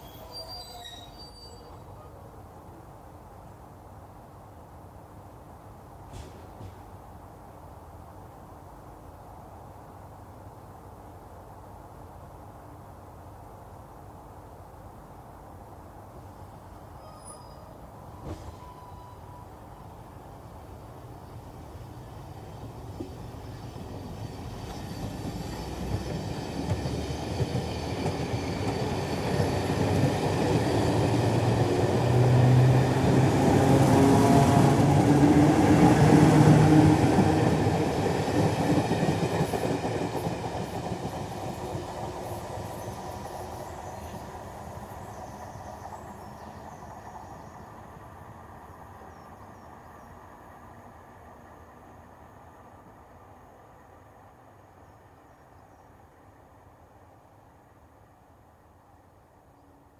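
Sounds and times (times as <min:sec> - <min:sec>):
electric train on rails: 0:00.0 - 0:59.9.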